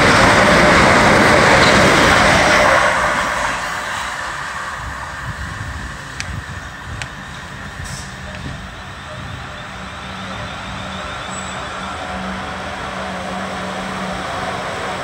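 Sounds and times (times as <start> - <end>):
distant train rumble: 0.0 - 15.0
train wheel and rail noise: 0.0 - 15.0.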